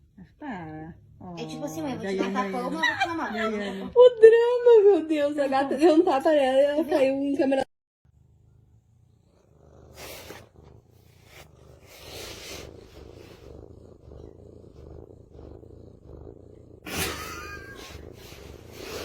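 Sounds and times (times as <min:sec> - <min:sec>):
cat purring: 0:00.0 - 0:06.9, 0:08.1 - 0:19.0.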